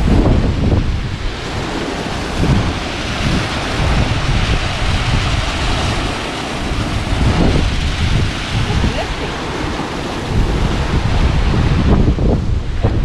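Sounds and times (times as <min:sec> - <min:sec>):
ocean surf: 0:00.0 - 0:13.0
wind buffeting microphone: 0:00.0 - 0:13.0.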